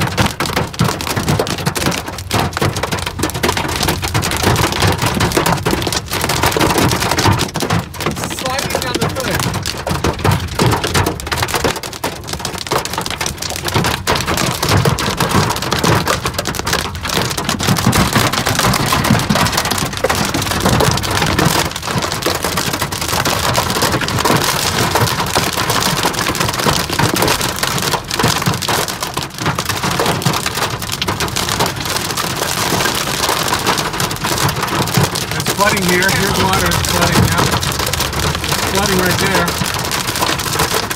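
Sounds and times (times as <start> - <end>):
rain and hail on car roof: 0.0 - 40.9.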